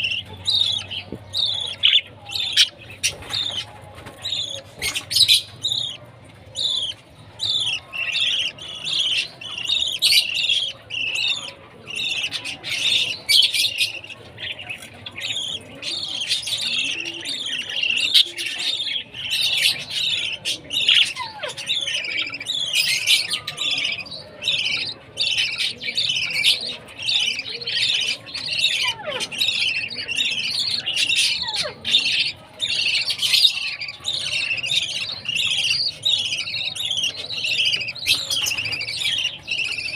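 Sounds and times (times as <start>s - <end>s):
baby budgerigars chirping: 0.0s - 39.9s.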